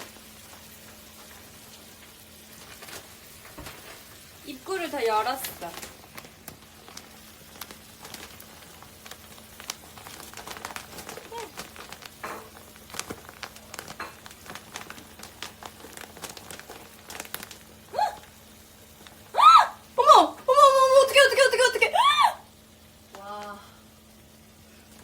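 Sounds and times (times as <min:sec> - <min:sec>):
plastic bag crinkling: 0:00.0 - 0:21.8.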